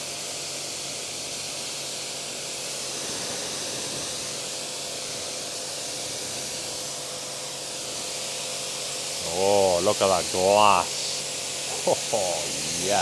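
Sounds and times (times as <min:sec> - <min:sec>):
pressure washer spraying water: 0:00.0 - 0:13.0.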